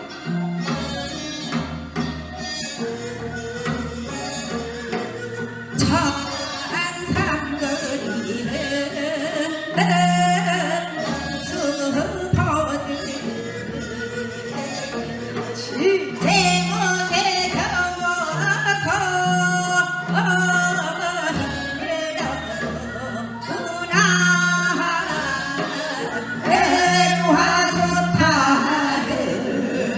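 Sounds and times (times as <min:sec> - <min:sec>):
folk music playing live: 0:00.0 - 0:29.9.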